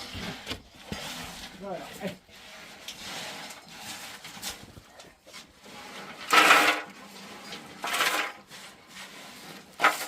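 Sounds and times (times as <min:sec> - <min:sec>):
rough scrapes: 0:00.0 - 0:10.0.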